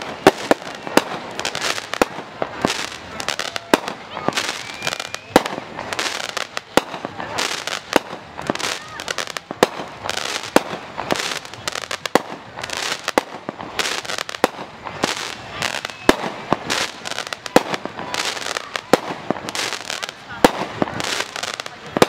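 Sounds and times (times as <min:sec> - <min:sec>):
firework bangs: 0:00.0 - 0:22.0
noisy hiss: 0:00.0 - 0:22.0.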